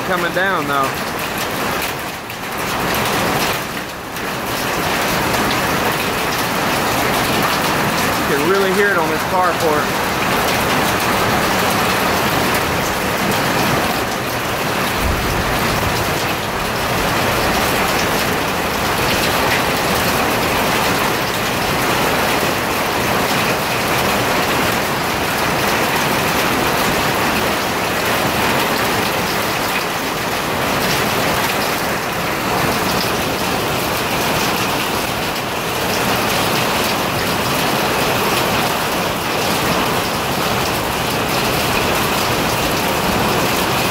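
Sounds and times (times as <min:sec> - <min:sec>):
hail and rain on roof: 0:00.0 - 0:43.9.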